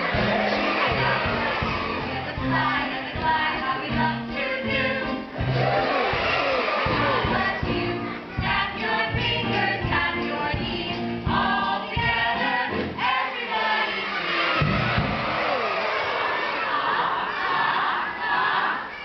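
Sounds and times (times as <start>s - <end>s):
accompaniment with steady beat: 0.0s - 13.1s, 14.0s - 16.3s
group singing a polka: 0.0s - 19.0s.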